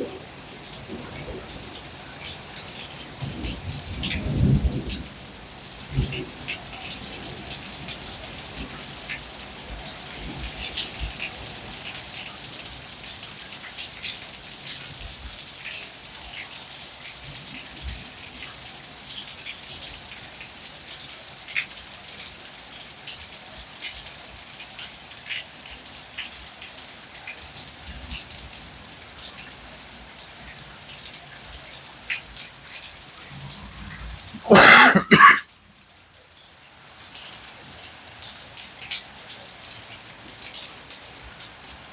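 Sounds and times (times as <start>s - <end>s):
raindrops ticking on a surface: 0.0s - 41.9s
steady rain: 0.0s - 41.9s.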